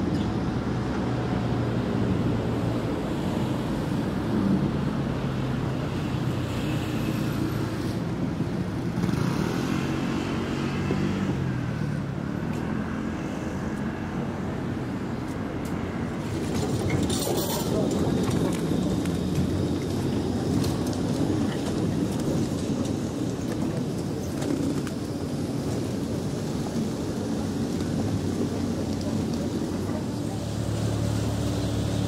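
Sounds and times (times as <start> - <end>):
cars driving past: 0.0 - 23.2, 24.9 - 32.0.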